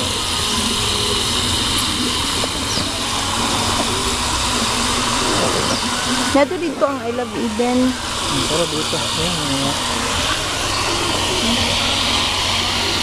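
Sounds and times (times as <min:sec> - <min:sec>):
faint voices: 0:01.9 - 0:13.0.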